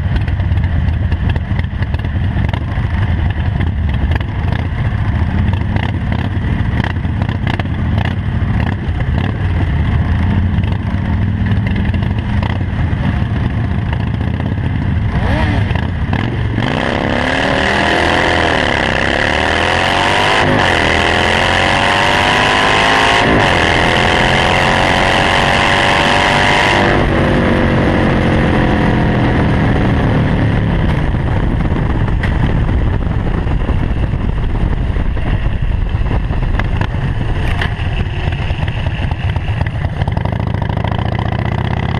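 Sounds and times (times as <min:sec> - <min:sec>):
motorcycle engine rumbling and accelerating: 0:00.0 - 0:41.9.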